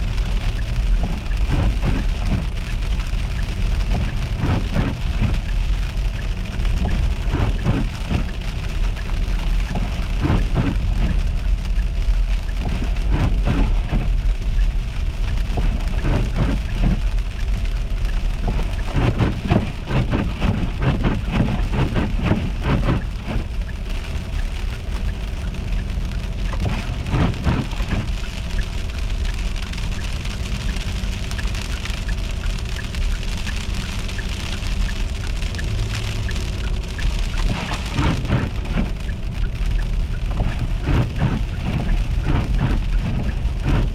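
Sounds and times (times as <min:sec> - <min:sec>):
icy rain ticking on surfaces: 0:00.0 - 0:43.9
low rumble: 0:00.0 - 0:43.9.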